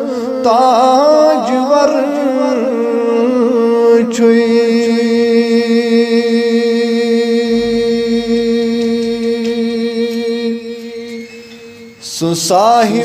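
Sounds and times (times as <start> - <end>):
man singing a long note: 0.0 - 11.3.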